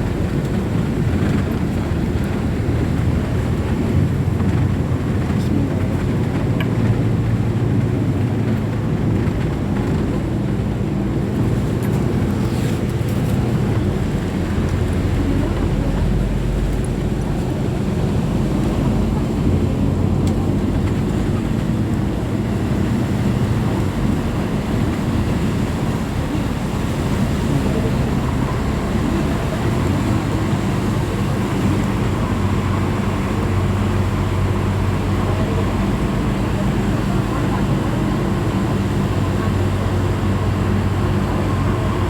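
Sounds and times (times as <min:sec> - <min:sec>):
train running rumble: 0:00.0 - 0:42.0.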